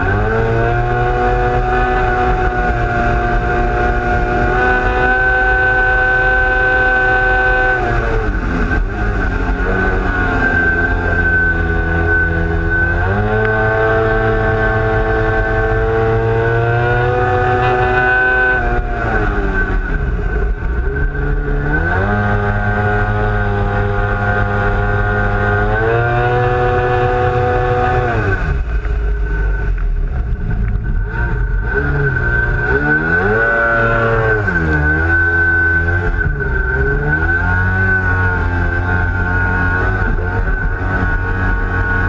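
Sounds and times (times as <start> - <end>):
high whine: 0.0 - 42.0
two-stroke engine revving: 0.0 - 42.0.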